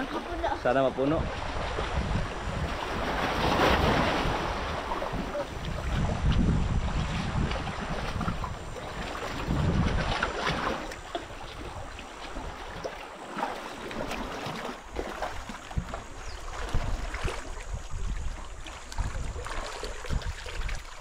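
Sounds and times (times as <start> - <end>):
sea surf washing and splashing: 0.0 - 21.0.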